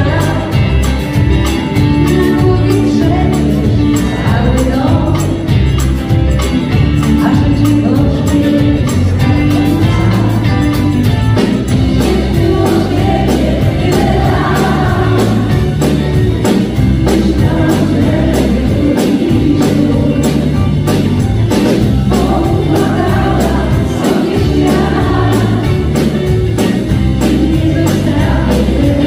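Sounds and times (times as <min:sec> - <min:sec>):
woman singing lead: 0:00.0 - 0:06.0, 0:06.9 - 0:29.0
bass guitar: 0:00.0 - 0:29.0
keyboard: 0:00.0 - 0:29.0
steady drum beat: 0:00.0 - 0:29.0.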